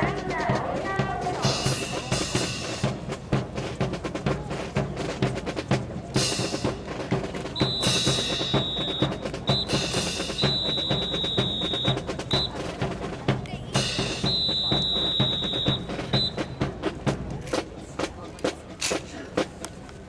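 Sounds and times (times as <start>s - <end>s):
marching snare and bass drums: 0.0s - 20.0s.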